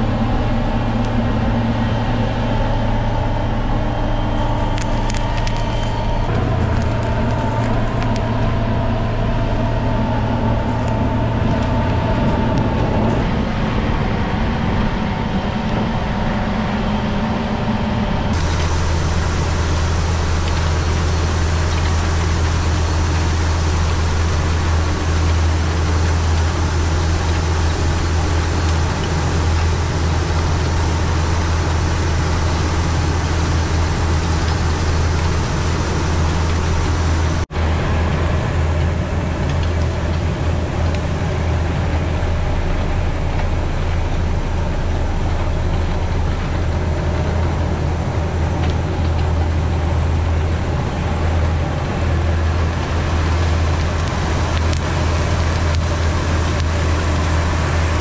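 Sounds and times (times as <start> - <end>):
tractor engine drone: 0.0 - 58.0.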